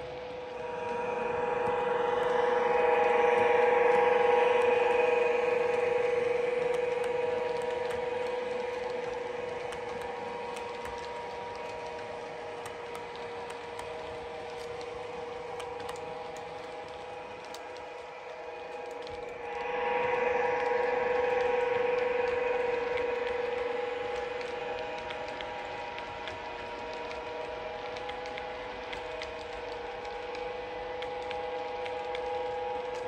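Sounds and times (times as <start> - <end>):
model locomotive motor whine: 0.0 - 33.0
model train wheels clicking: 0.0 - 33.0.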